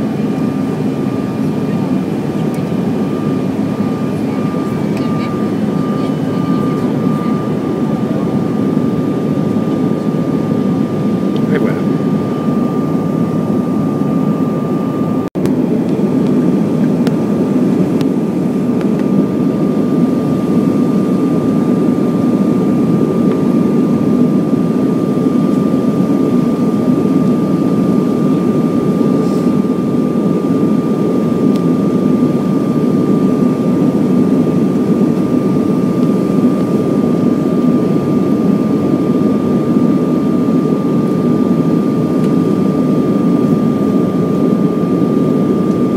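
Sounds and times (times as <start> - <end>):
jet cabin airflow and engine noise: 0.0 - 45.9
thin steady whine: 0.0 - 45.9.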